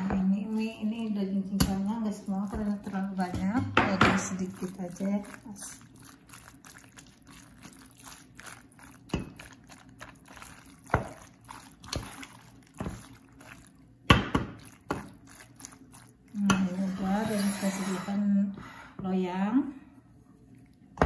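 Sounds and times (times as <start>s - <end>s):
wet squelching of pasta: 0.0s - 17.5s.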